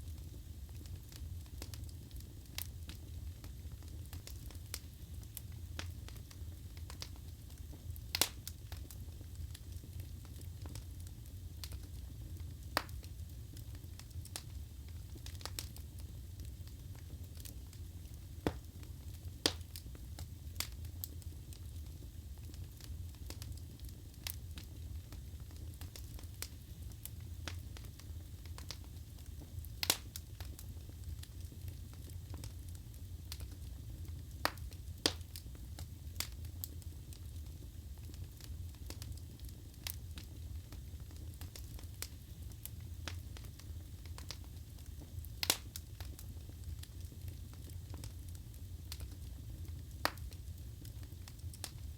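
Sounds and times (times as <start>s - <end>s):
fire flames rumbling: 0.0s - 51.9s
logs crackling and popping: 0.1s - 51.9s.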